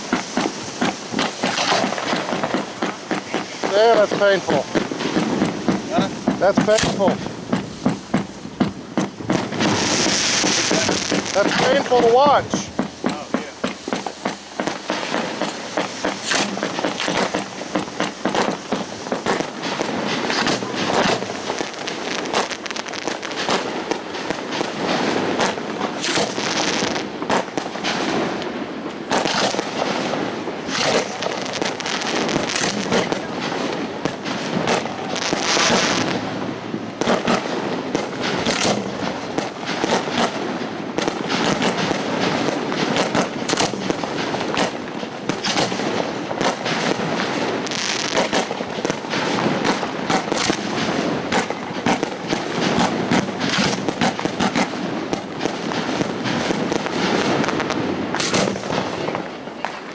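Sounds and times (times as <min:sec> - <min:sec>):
fireworks booms: 0:00.0 - 0:59.9
fireworks crackling: 0:00.0 - 0:59.9.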